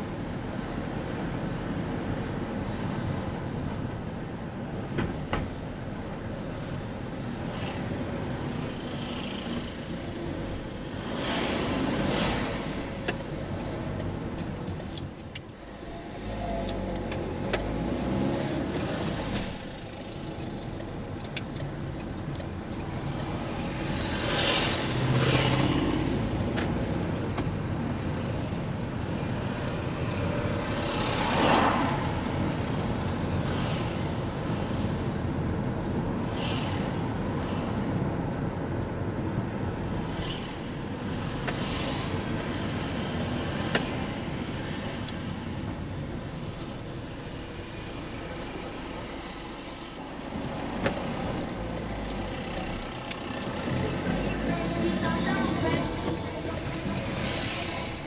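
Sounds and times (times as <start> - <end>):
engine and tyre noise: 0.0 - 58.0
vehicles passing: 0.0 - 58.0.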